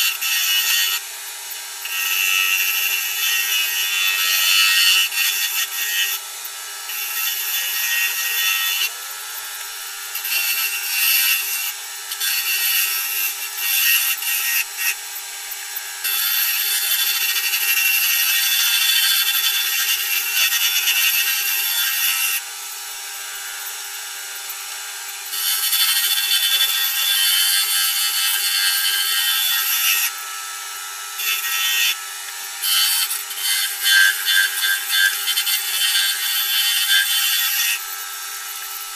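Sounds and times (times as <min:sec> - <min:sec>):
tool cutting spinning wood: 0:00.0 - 0:38.9.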